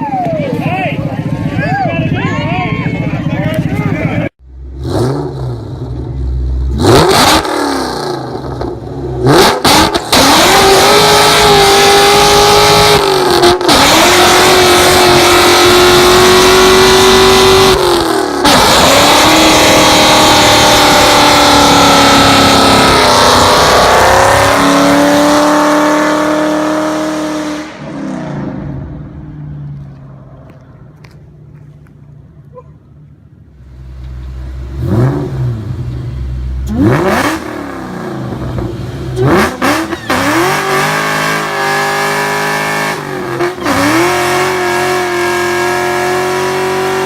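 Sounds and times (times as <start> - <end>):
car engine revving: 3.0 - 31.9, 33.6 - 47.0.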